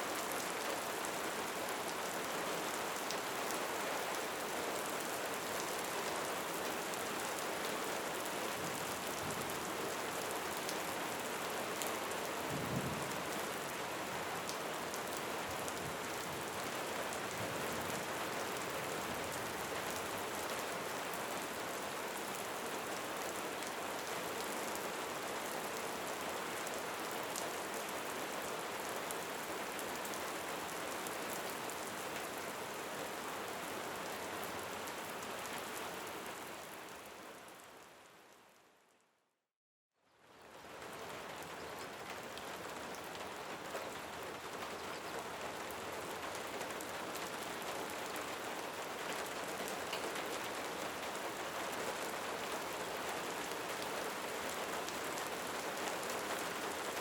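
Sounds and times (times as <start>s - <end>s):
steady rain falling: 0.0s - 38.9s, 40.1s - 57.0s.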